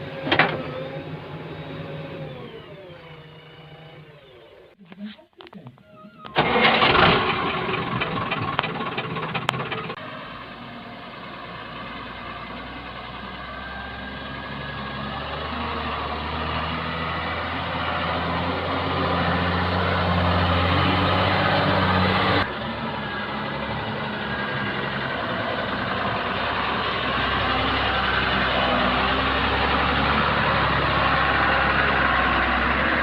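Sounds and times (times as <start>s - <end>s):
heavy diesel engine running: 6.3s - 33.0s.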